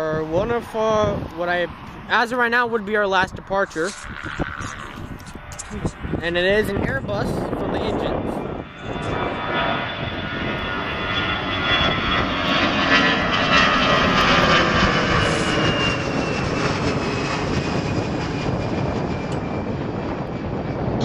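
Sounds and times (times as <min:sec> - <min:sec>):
jet airliner engine roar: 0:00.0 - 0:21.0.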